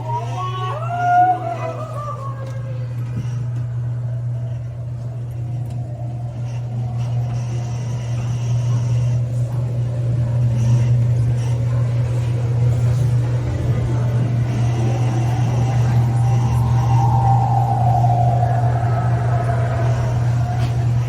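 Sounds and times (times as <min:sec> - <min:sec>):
ride vehicle rolling on track: 0:00.0 - 0:21.0.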